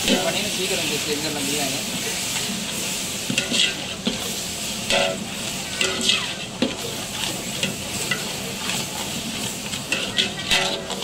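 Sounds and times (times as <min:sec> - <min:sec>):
meat sizzling in a pot: 0:00.0 - 0:11.0
metal ladle scraping pot: 0:01.8 - 0:11.0.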